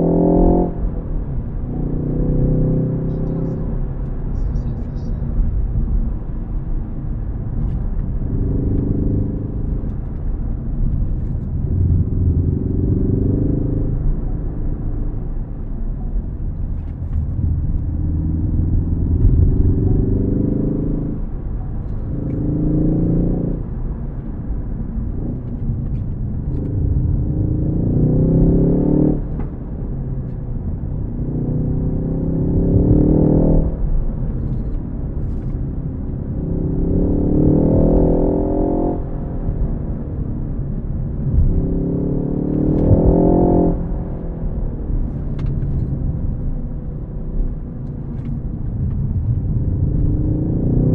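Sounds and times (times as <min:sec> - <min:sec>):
road noise rumble: 0:00.0 - 0:50.9.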